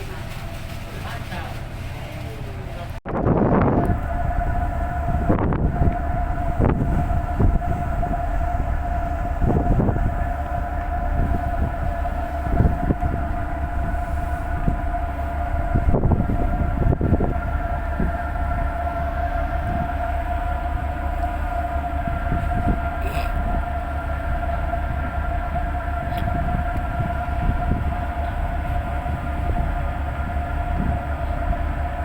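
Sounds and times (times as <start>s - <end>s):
ferry engine droning: 0.0s - 32.0s.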